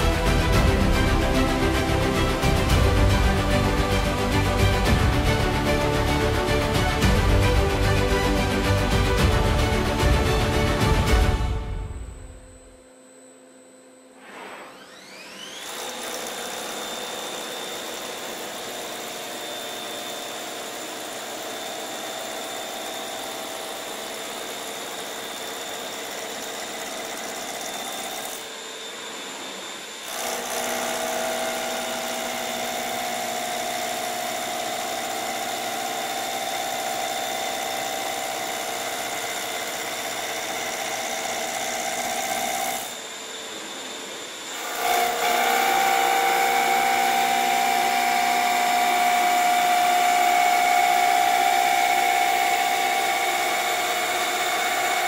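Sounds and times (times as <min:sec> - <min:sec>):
wood lathe motor whine: 0:00.0 - 0:55.0.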